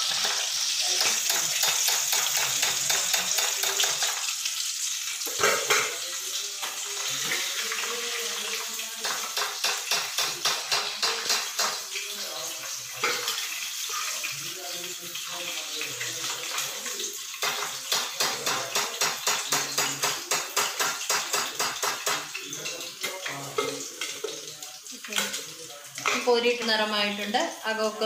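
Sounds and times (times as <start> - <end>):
oil sizzling while deep-frying: 0.0 - 28.0.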